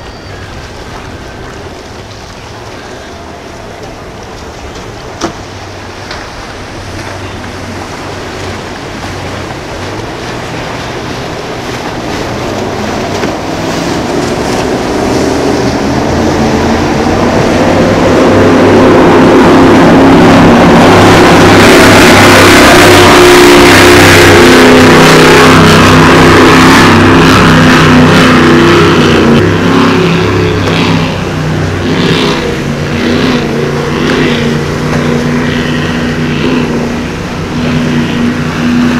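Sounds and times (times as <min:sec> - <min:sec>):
powerboat engines running hard: 0:00.0 - 0:38.9
water rushing: 0:00.0 - 0:38.9.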